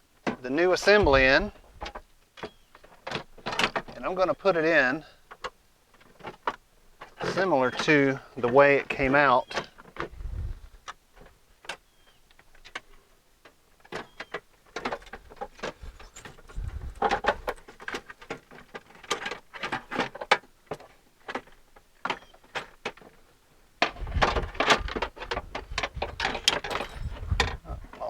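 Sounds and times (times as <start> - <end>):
metal and plastic parts knocking: 0.2 - 10.2, 12.4 - 28.0
clattering and thumps: 0.2 - 10.5, 13.8 - 28.0.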